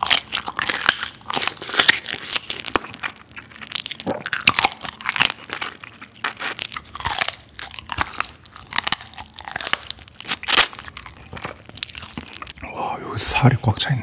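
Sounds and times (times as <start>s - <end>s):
crab shell crunching: 0.0s - 12.7s.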